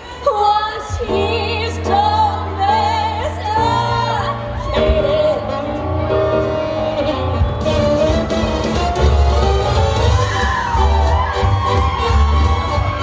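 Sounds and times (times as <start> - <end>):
instrumental backing: 1.1 - 13.0
steady bass line: 1.8 - 13.0.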